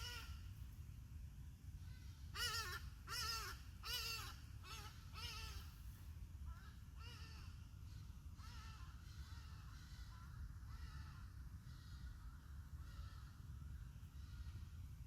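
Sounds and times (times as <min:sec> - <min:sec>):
faint bird calls: 0:00.0 - 0:00.5, 0:01.8 - 0:14.9.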